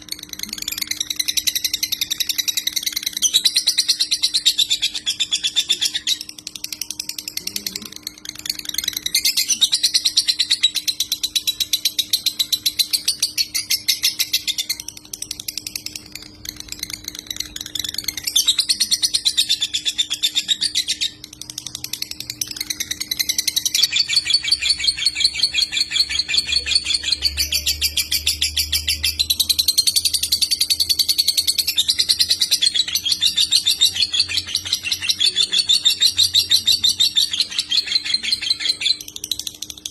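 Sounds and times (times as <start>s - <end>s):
songbird buzzy chattering trill: 0.0s - 39.9s.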